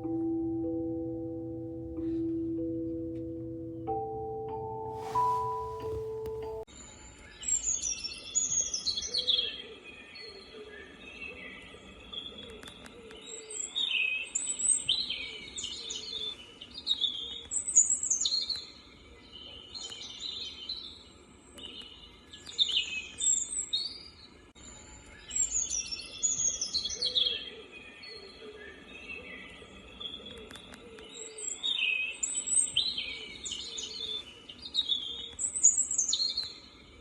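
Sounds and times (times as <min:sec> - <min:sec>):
birdsong through small speaker: 0:06.7 - 0:37.0.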